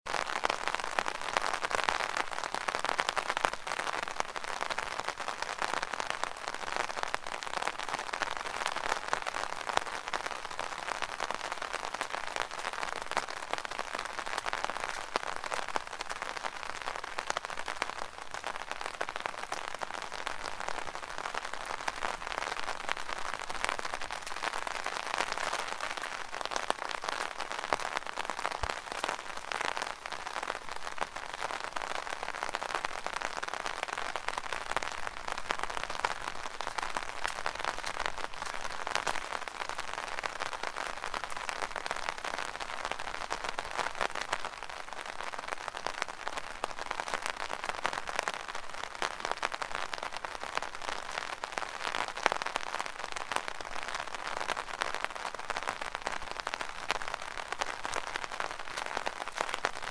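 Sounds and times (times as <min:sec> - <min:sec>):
rain drumming on umbrella: 0:00.0 - 0:59.9.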